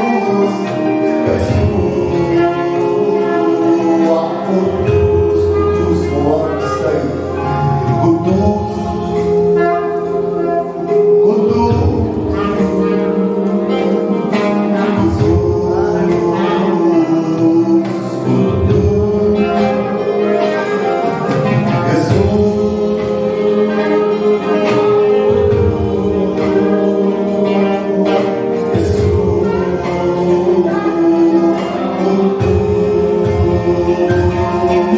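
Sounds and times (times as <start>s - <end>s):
worship song with band: 0.0s - 34.9s.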